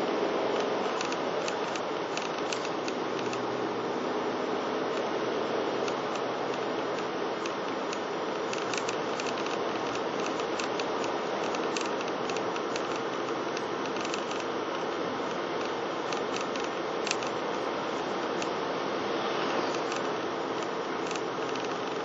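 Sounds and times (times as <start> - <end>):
car road and engine noise: 0.0 - 22.0
small clicks and rattles: 0.5 - 3.4, 5.8 - 18.6, 19.5 - 22.0.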